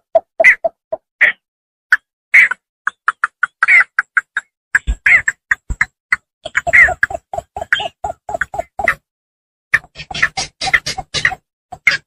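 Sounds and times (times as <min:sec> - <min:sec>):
bird clucking calls: 0:00.0 - 0:09.0, 0:09.7 - 0:12.0.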